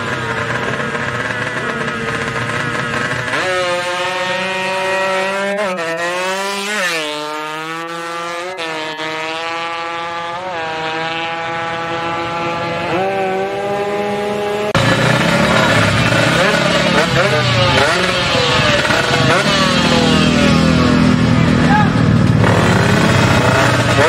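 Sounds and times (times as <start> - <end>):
motorcycle engine revving and accelerating: 0.0 - 24.0.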